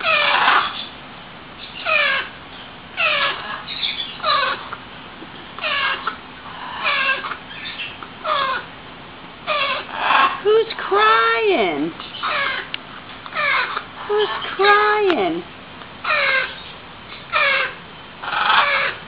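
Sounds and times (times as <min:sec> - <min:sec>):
parrot chicks squawking: 0:00.0 - 0:01.0, 0:01.6 - 0:04.9, 0:05.6 - 0:08.8, 0:09.4 - 0:15.0, 0:16.0 - 0:19.0.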